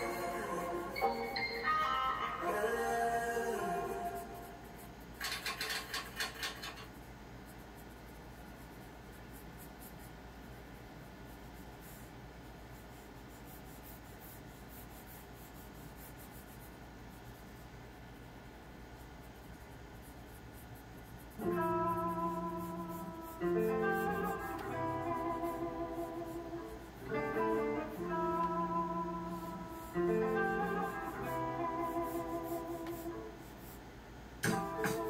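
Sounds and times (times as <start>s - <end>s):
pencil scratching on paper: 4.0s - 33.9s.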